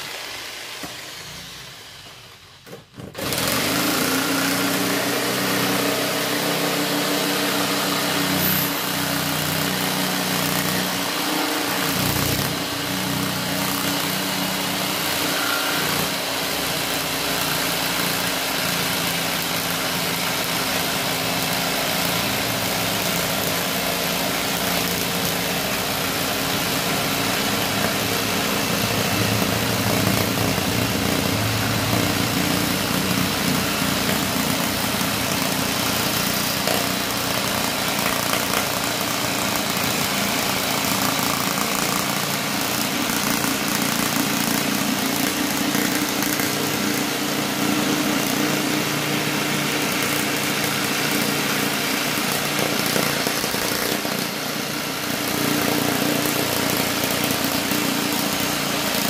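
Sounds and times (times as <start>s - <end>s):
jigsaw cutting acrylic sheet: 0.0s - 59.0s.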